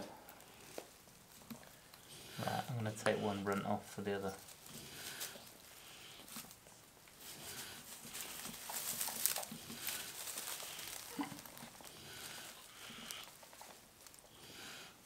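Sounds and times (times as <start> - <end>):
straw rustling: 0.0 - 14.9
faint pig noises: 2.0 - 15.0.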